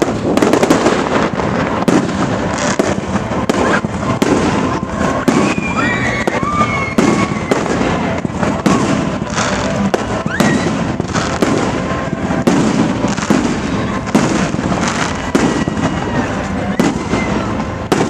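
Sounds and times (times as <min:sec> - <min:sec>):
fireworks bangs and crackling: 0:00.0 - 0:18.0
rising firework whistles: 0:00.0 - 0:18.0.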